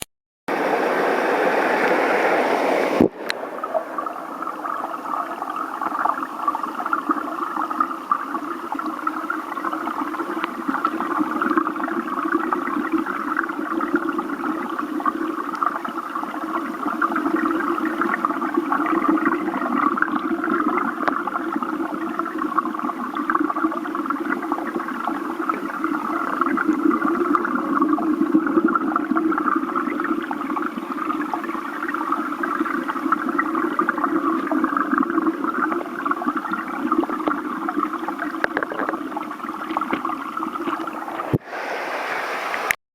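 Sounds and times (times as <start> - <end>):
stream flowing over rocks: 0.5 - 42.8.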